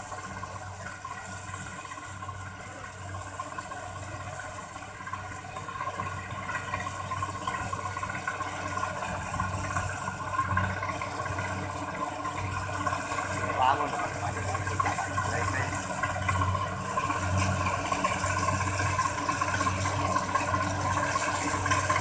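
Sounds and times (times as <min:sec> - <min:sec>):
harvester engine running: 0:00.0 - 0:22.0.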